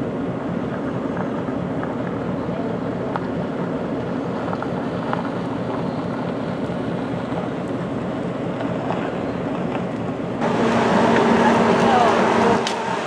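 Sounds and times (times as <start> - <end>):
diesel locomotive engine idling: 0.0 - 13.0.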